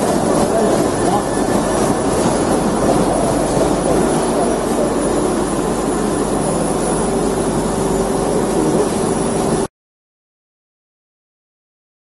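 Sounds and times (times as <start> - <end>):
machine belts and drives running: 0.0 - 9.7
thin high whine: 0.0 - 9.7.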